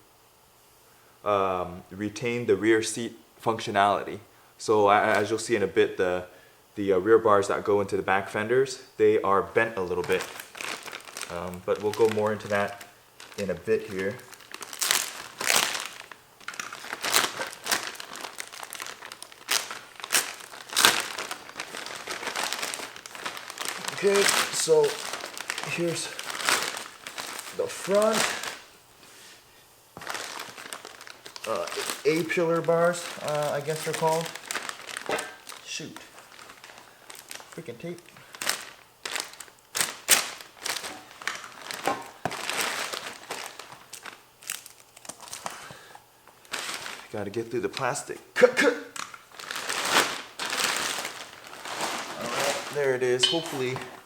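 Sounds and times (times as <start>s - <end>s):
plastic wrap crinkling: 4.9s - 5.6s, 9.6s - 54.0s.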